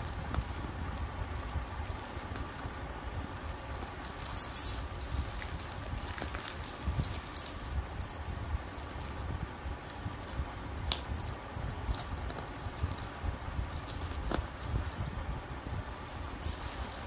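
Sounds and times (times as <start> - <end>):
plastic crackle: 0.0 - 17.0
plastic crinkling: 0.0 - 17.0.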